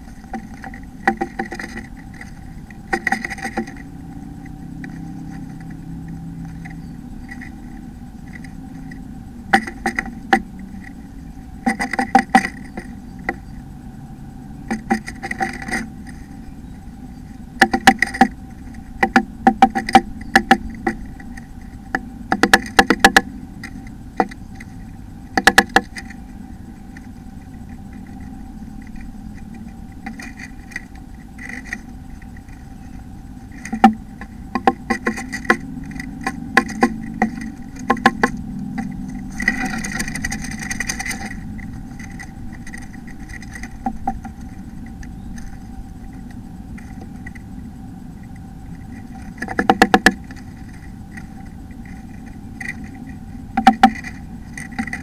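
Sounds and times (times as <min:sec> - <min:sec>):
bird scratching in nest box: 0:00.0 - 0:13.6, 0:14.6 - 0:16.6, 0:17.2 - 0:47.5, 0:48.2 - 0:55.0
faint steady hum: 0:00.0 - 0:55.0.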